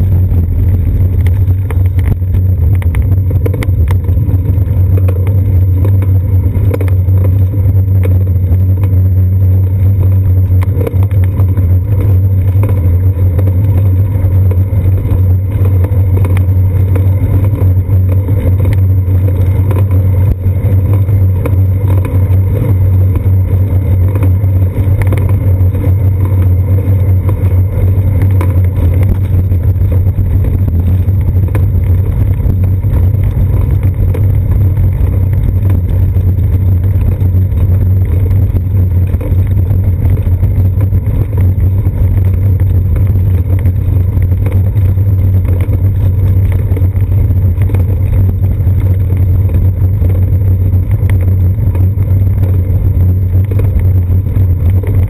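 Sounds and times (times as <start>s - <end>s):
road vibration rumble: 0.0s - 55.0s
wind: 0.0s - 55.0s
faint ticks from bicycle: 10.4s - 55.0s.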